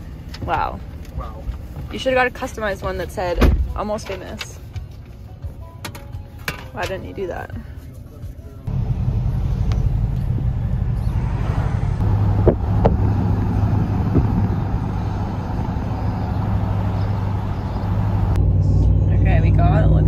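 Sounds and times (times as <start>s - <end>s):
road and engine rumble in cab: 0.0s - 20.0s.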